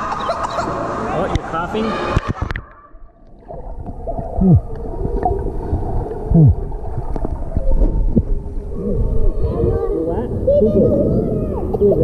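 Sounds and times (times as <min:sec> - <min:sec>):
muffled churning water: 0:00.0 - 0:12.0.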